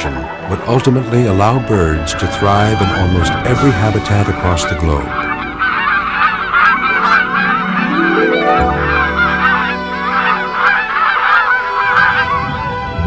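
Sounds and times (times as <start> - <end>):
geese honking in flight: 0.0 - 13.0
soft music: 0.0 - 13.0.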